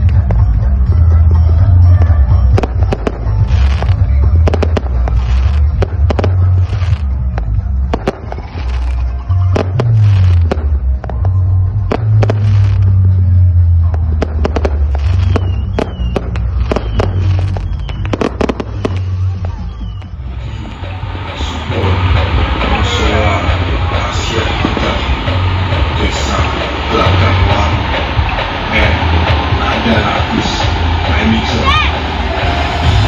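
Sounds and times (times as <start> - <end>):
bass-heavy music on sound system: 0.0 - 33.0
fireworks and firecrackers banging: 0.0 - 33.0.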